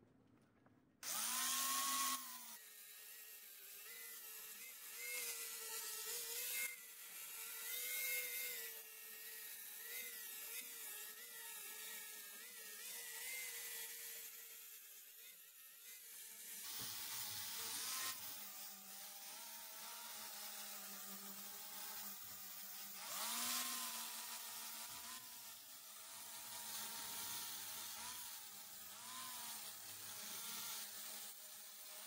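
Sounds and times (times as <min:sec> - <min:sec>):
angle grinder on metal: 0:01.0 - 0:32.0.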